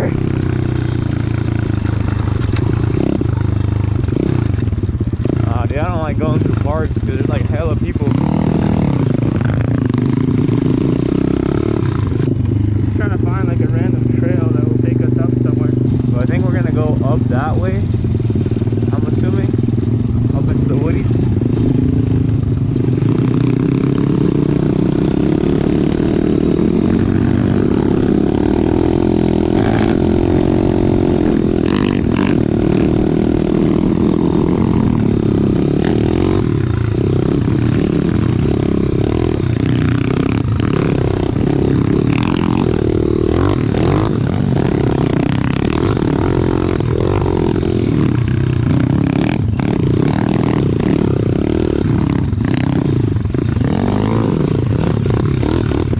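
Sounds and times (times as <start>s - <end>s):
motorbike engine running: 0.0s - 55.9s.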